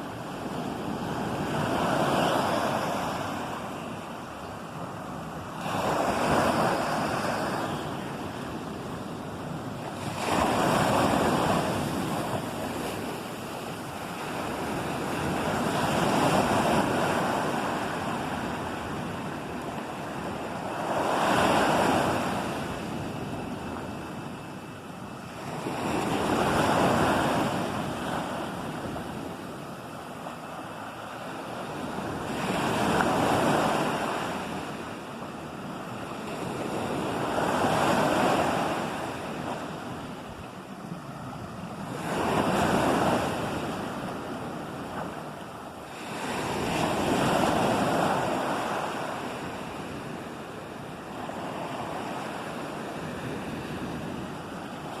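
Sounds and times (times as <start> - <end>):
ocean waves breaking on shore: 0.0 - 55.0
wind noise on microphone: 0.0 - 55.0.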